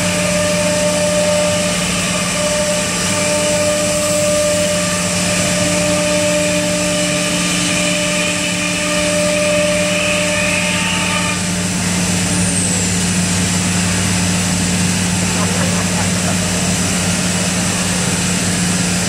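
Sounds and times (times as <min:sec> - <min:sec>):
cnc router machine hum: 0:00.0 - 0:19.0.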